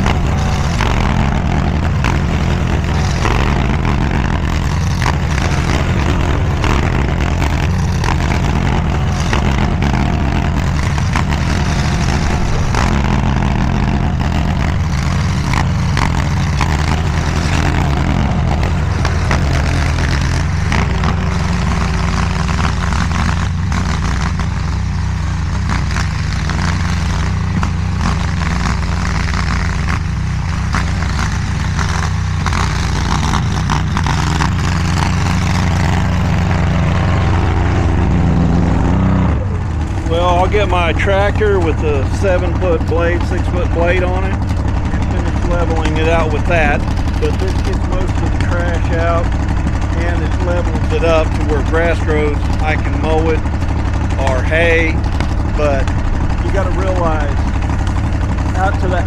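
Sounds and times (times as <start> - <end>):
mini skid steer engine running: 0.0 - 59.0.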